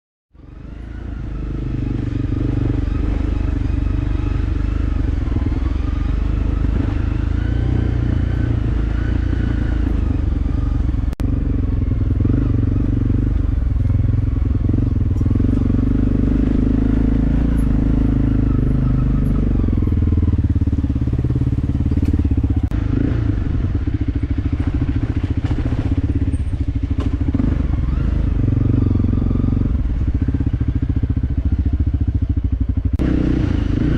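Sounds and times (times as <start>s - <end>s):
motorcycle engine running: 0.4s - 33.9s.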